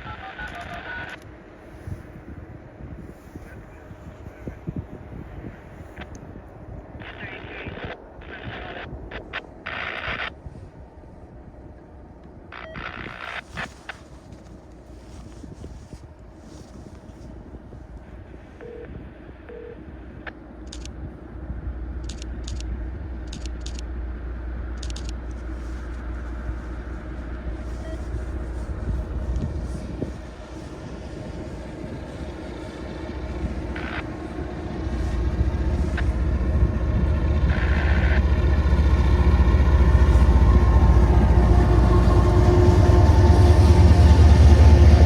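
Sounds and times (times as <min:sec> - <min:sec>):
train engine rumble: 0:00.0 - 0:45.0.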